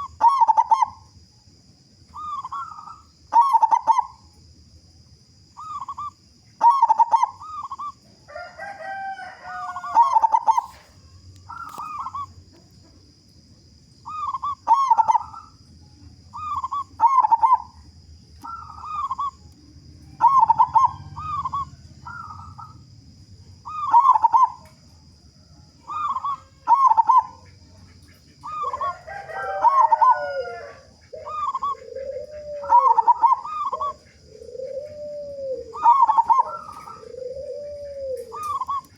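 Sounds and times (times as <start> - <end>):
dove cooing: 0.0 - 1.3, 2.1 - 4.3, 5.6 - 12.7, 14.1 - 38.9.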